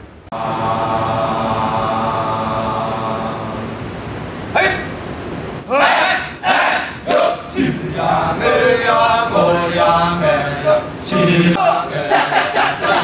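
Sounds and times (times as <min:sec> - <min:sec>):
men chanting: 0:00.3 - 0:03.8, 0:05.7 - 0:13.0.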